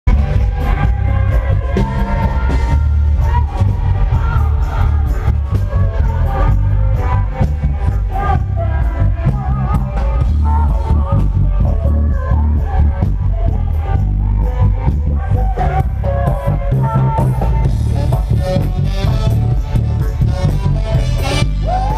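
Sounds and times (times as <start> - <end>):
live band playing: 0.0 - 21.9
person singing: 0.1 - 21.9.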